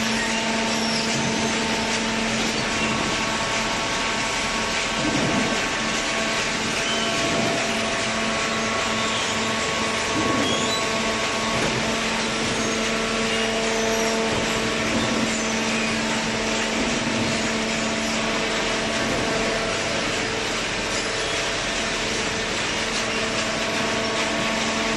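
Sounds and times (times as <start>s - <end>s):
hydraulic baling press humming: 0.0s - 24.9s.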